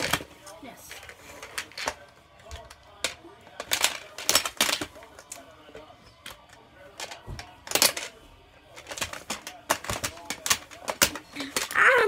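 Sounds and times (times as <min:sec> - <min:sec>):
plastic pieces clacking and knocking: 0:00.0 - 0:12.0.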